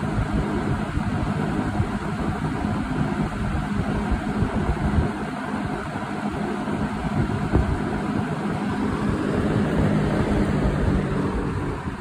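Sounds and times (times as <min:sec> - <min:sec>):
fan rushing air: 0:00.0 - 0:12.0
low motor hum: 0:00.0 - 0:12.0.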